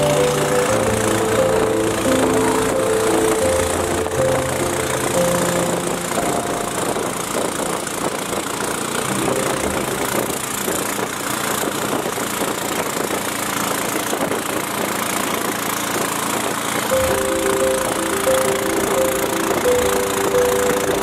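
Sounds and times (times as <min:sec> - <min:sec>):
motorboat engine chugging: 0:00.0 - 0:21.0.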